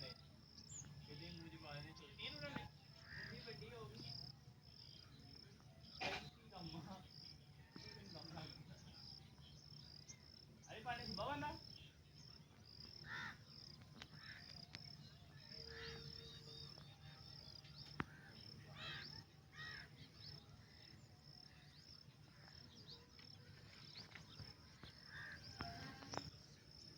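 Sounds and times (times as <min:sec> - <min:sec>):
crickets chirping: 0:00.0 - 0:26.9
faint bird calls: 0:02.1 - 0:07.0, 0:09.9 - 0:26.9.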